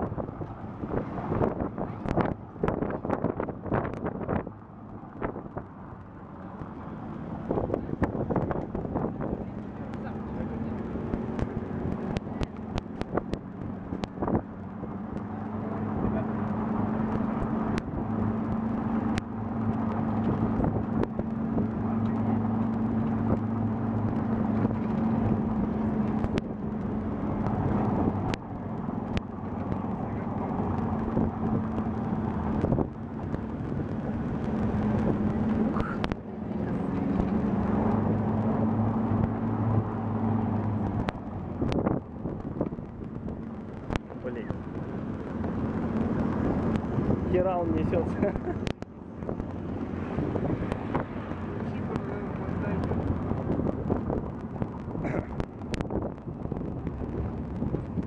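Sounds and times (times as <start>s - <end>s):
pickup engine hum: 0.0s - 58.0s
wind and road rush: 0.0s - 58.0s.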